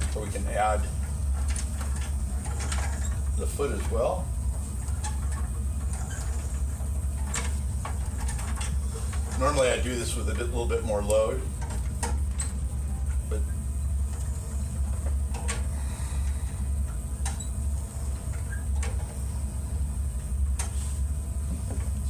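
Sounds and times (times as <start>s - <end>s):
pulley cords clicking: 0.0s - 20.7s
steady low hum: 0.0s - 22.0s.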